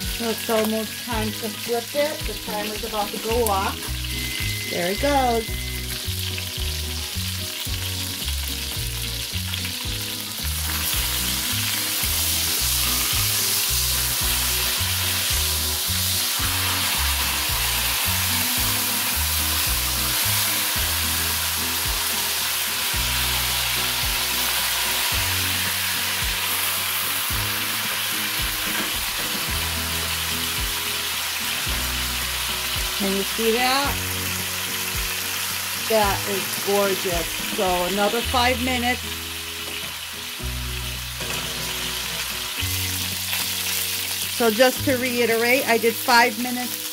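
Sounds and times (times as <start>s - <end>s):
chicken sizzling in a pot: 0.0s - 46.9s.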